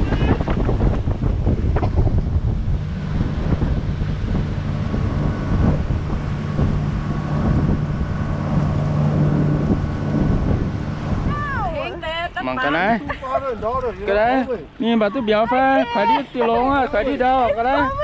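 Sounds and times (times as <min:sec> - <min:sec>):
outboard motor running: 0:00.0 - 0:18.0
wind buffeting microphone: 0:00.0 - 0:18.0.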